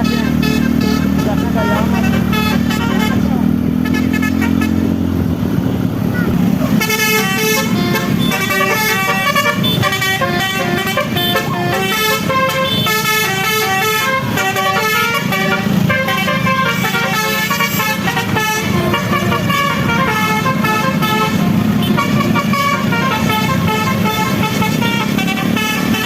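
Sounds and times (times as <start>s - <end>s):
bus horn playing a melody: 0.0s - 5.2s, 6.7s - 26.0s.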